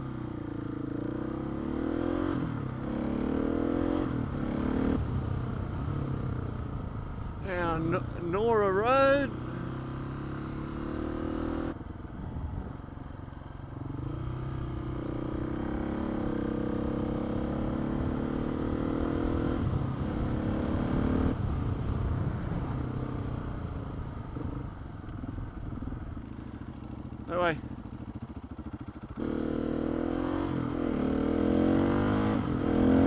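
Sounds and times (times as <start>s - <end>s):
motorcycle engine accelerating: 0.0s - 7.1s, 9.0s - 33.0s
wind and road noise: 0.0s - 33.0s.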